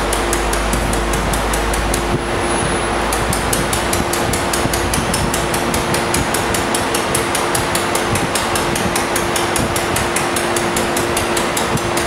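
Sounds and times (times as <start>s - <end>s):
constant machine hum: 0.0s - 12.0s
laser welding hiss and ticking: 0.0s - 12.0s.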